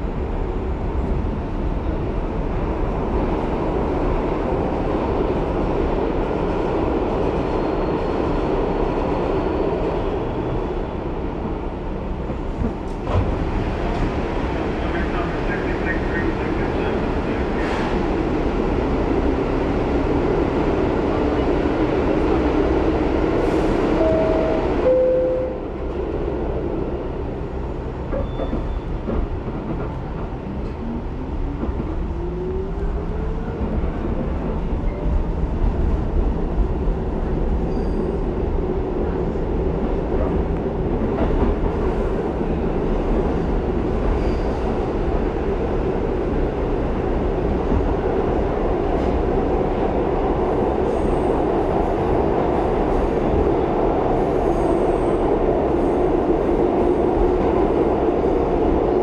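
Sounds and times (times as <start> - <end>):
subway car rumbling on track: 0.0 - 59.0.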